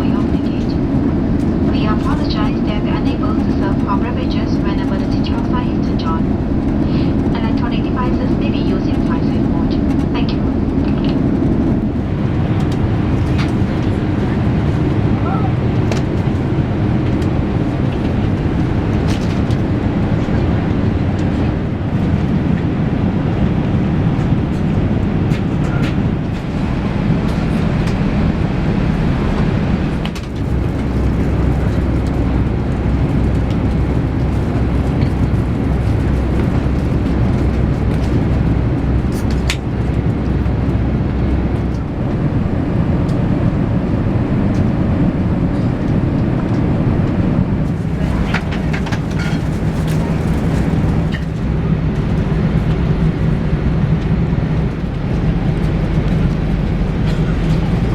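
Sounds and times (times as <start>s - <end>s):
deep low hum: 0.0s - 57.9s.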